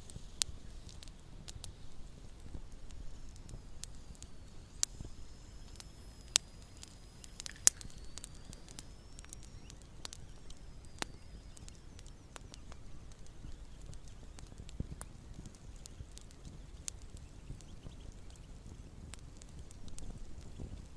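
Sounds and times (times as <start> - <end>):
campfire crackling and popping: 0.0 - 20.9
low hiss of fire: 0.0 - 20.9.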